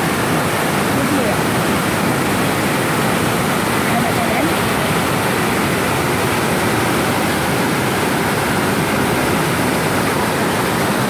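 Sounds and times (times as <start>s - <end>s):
river rushing over rapids: 0.0s - 11.0s.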